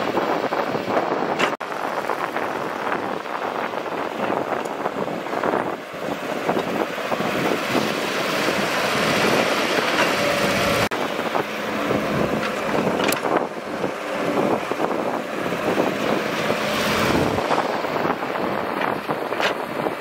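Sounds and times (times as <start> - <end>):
excavator diesel engine under load: 0.0 - 20.0
hydraulics whining: 0.2 - 20.0
dump truck engine running: 0.3 - 20.0.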